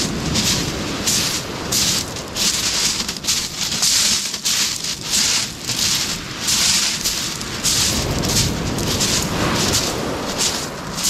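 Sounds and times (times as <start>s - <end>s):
footsteps crunching on pebbles: 0.0s - 11.0s
surf rushing: 0.0s - 11.0s
wind: 0.0s - 11.0s.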